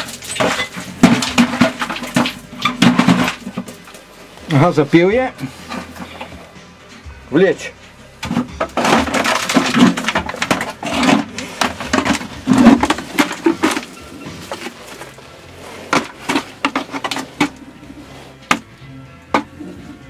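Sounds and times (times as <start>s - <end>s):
bucket knocks and clinks: 0.0s - 6.4s, 8.2s - 20.0s
metal bucket scraping rock: 0.0s - 6.6s, 7.4s - 20.0s.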